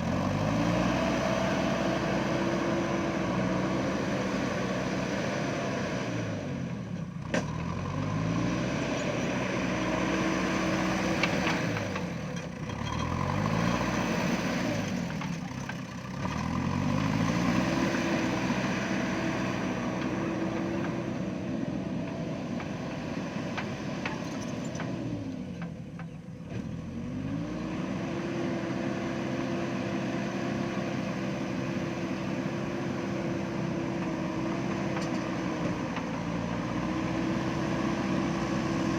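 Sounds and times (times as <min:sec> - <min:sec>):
diesel engine revving up and down: 0:00.0 - 0:38.9.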